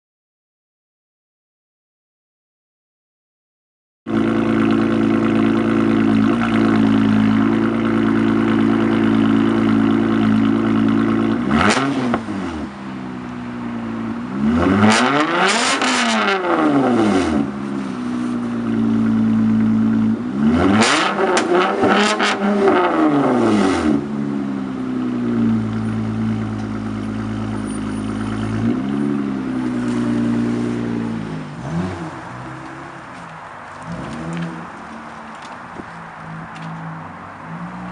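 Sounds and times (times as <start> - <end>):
car engine idling and revving: 4.1 - 37.9.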